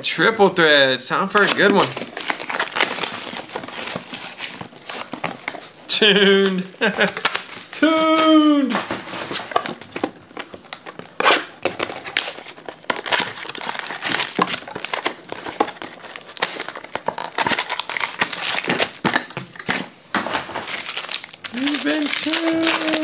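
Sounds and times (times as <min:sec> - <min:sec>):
foil wrapper crinkling and tearing: 0:01.3 - 0:23.0.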